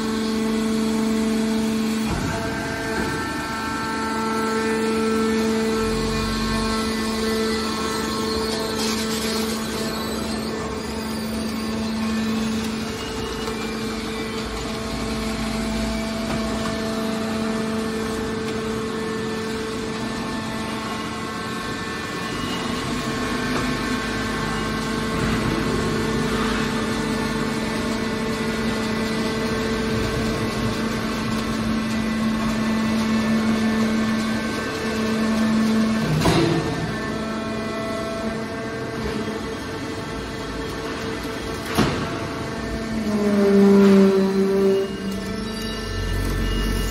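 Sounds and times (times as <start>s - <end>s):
hydraulic pump motor humming: 0.0s - 46.9s.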